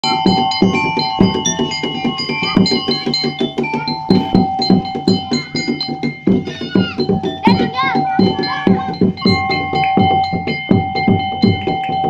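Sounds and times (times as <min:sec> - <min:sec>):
drum beating steady rhythm: 0:00.0 - 0:12.0
ringing chime-like tones: 0:00.0 - 0:12.0.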